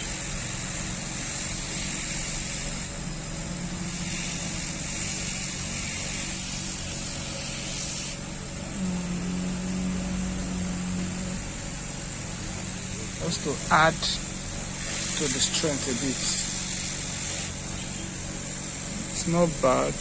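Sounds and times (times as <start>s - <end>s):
high hiss: 0.0s - 20.0s
steady mechanical hum: 0.0s - 20.0s.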